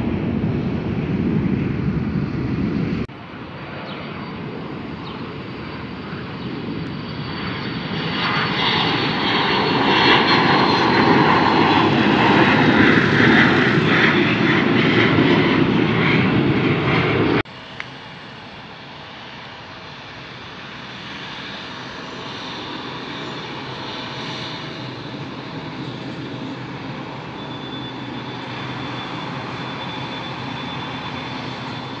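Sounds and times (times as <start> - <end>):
high engine whine: 0.0 - 32.0
jet airliner engines: 0.0 - 32.0.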